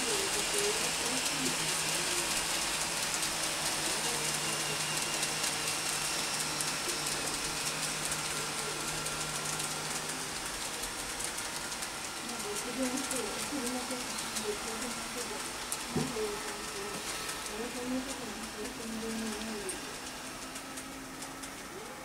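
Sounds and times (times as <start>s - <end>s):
model train wheels on rail: 0.0s - 22.0s.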